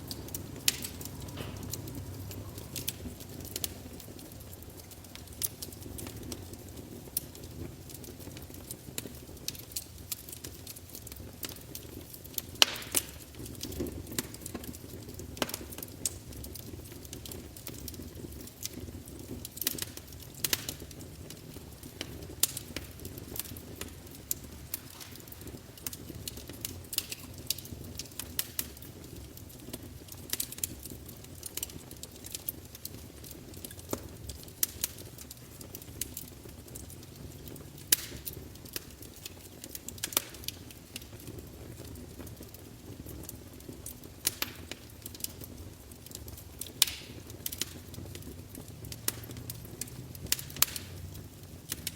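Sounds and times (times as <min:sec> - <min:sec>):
fire rumbling: 0:00.0 - 0:51.9
logs crackling and popping: 0:00.0 - 0:51.9.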